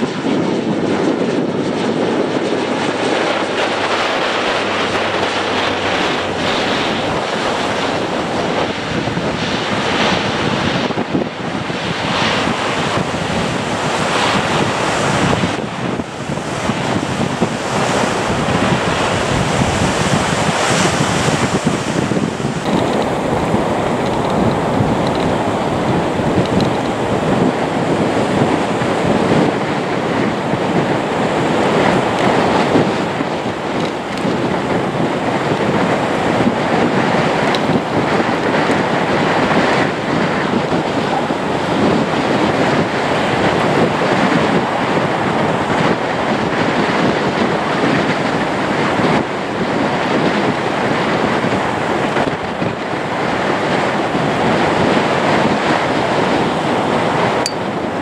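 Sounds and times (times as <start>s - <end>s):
turboprop engines roaring: 0.0s - 58.0s
wind buffeting microphone: 0.0s - 58.0s.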